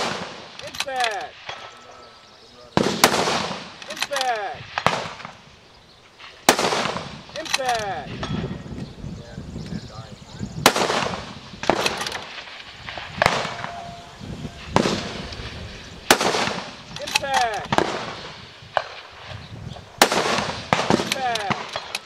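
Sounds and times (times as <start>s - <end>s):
rifle shots: 0.0s - 1.9s, 2.8s - 5.5s, 6.2s - 8.6s, 10.6s - 22.0s.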